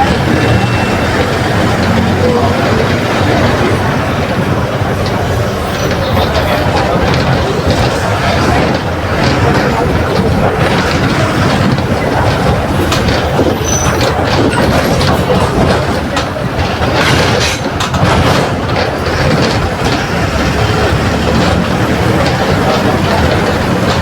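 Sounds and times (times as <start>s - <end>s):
bus body rattling: 0.0s - 24.0s
diesel bus engine running: 0.0s - 24.0s
road rumble: 0.0s - 24.0s.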